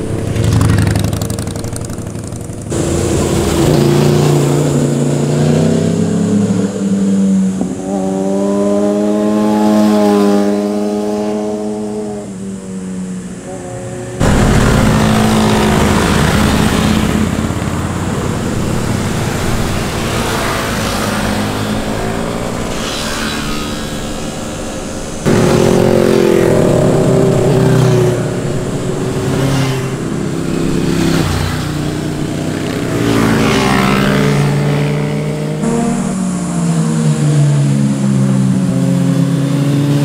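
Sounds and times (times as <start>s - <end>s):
motorcycles passing: 0.0s - 40.0s.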